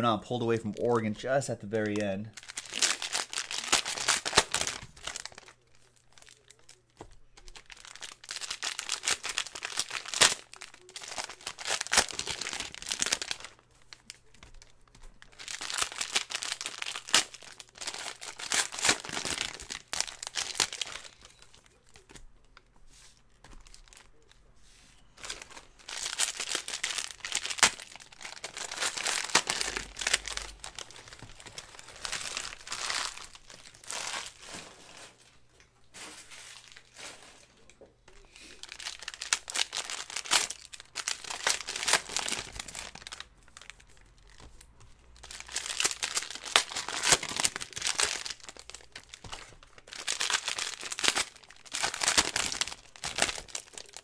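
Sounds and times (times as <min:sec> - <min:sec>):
foil wrappers tearing and crinkling: 0:01.8 - 0:22.2, 0:25.2 - 0:35.3, 0:38.4 - 0:54.0.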